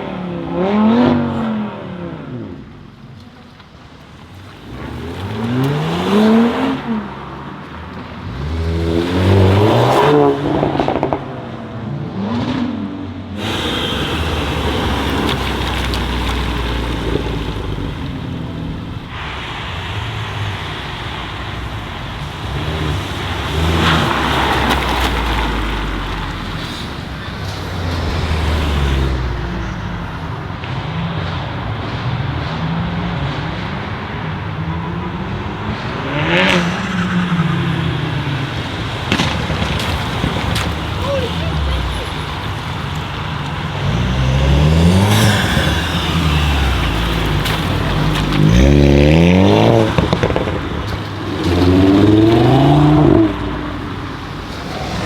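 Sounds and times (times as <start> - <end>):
sports car engines revving: 0.0 - 55.0.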